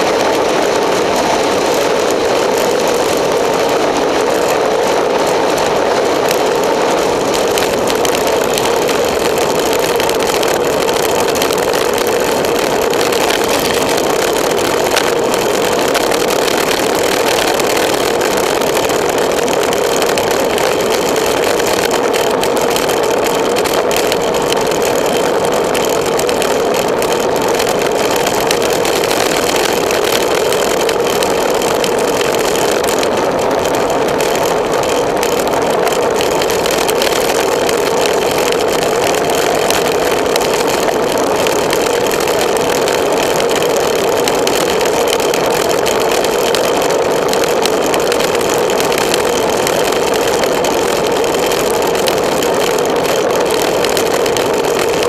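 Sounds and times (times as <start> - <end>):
tyre and road noise: 0.0 - 55.0
wind rushing over microphone: 0.0 - 55.0.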